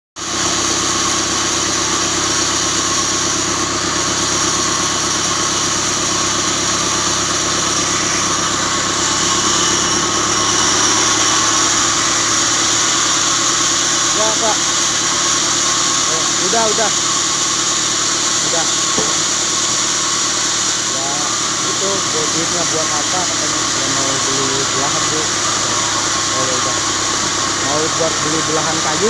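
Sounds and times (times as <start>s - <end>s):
band saw machine running: 0.2s - 29.0s.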